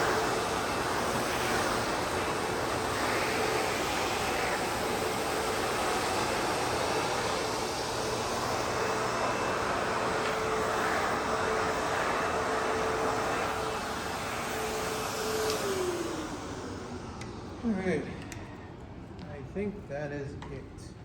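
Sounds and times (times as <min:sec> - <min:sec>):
backpack vacuum running: 0:00.0 - 0:19.2.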